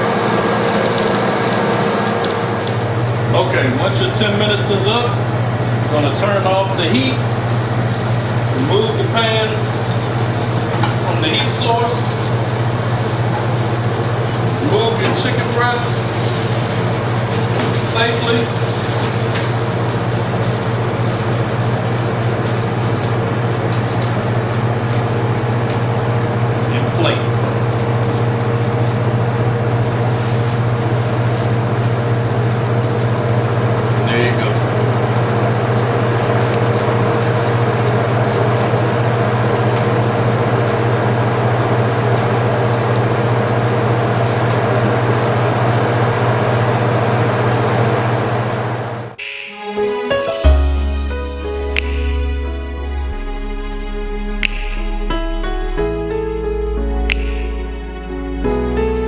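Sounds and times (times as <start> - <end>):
low machine hum: 0.0 - 49.0, 50.4 - 59.0.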